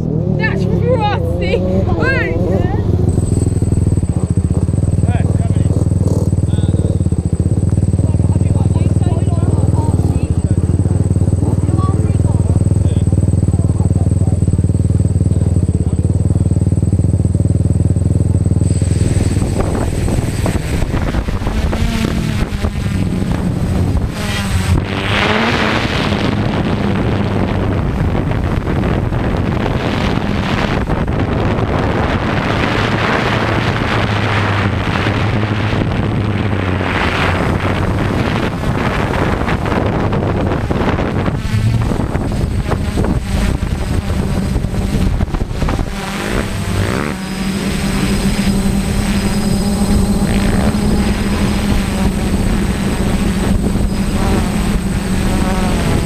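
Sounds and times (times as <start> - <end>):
dirt bike engine idling: 0.0 - 56.0
quadcopter rotors spinning: 0.0 - 56.0
wind buffeting microphone: 0.0 - 56.0.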